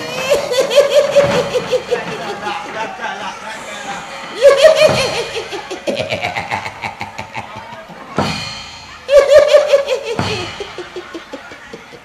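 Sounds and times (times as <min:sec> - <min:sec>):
fast even drum strokes: 0:01.0 - 0:11.4.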